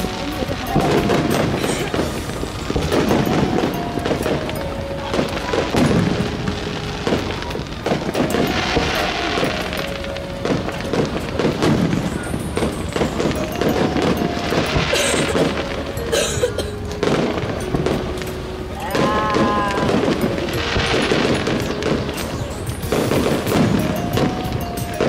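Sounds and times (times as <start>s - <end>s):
fireworks booming: 0.0s - 25.0s
fireworks crackling: 0.0s - 25.0s
music with long held notes: 0.0s - 25.0s.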